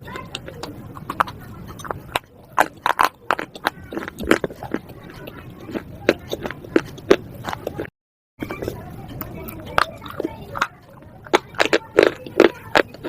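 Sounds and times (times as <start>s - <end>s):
slate crunching when chewed: 0.0s - 13.0s.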